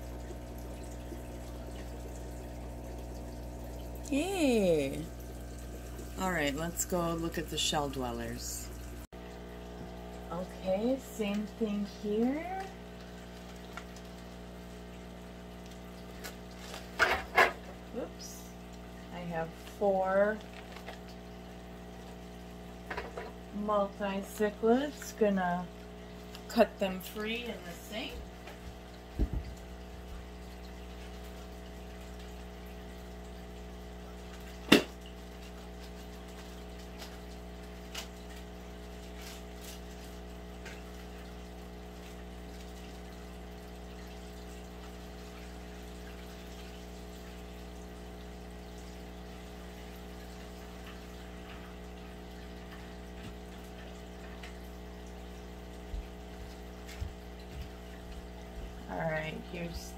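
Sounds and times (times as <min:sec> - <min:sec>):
aquarium pump humming: 0:00.0 - 0:59.9
water moving at surface: 0:00.0 - 0:59.9.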